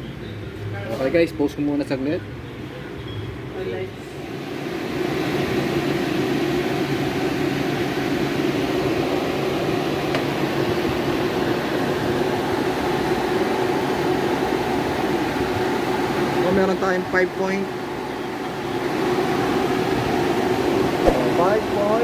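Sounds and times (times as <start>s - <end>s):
freezer compressor and fans humming: 0.0s - 22.0s.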